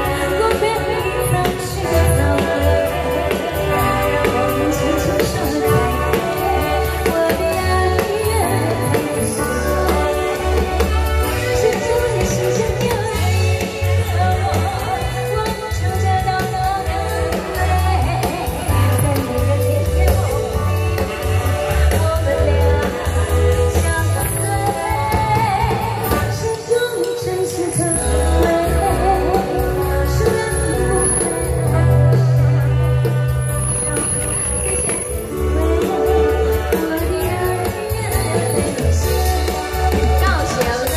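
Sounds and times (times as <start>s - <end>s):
woman singing into microphone: 0.0s - 32.7s, 35.3s - 40.9s
backing track with pulsing bass: 0.0s - 40.9s.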